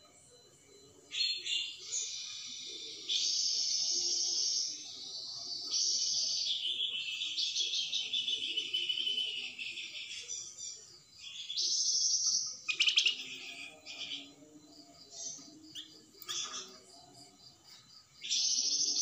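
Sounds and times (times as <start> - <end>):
songbird trilling song: 1.1 - 19.0.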